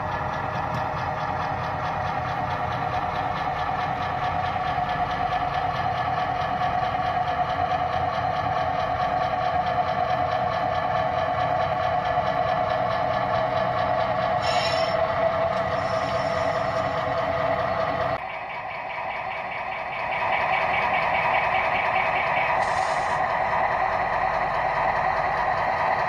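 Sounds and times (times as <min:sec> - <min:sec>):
model diesel locomotive running: 0:00.0 - 0:26.0.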